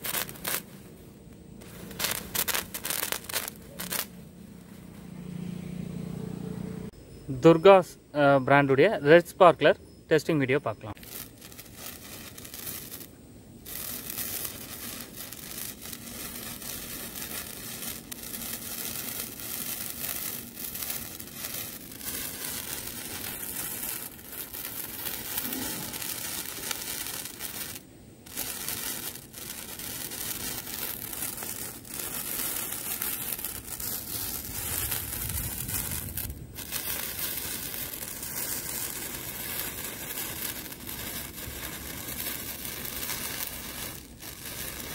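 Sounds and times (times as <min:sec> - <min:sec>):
sparkler crackling fizz: 0:00.0 - 0:00.9, 0:01.6 - 0:04.2, 0:10.9 - 0:44.9.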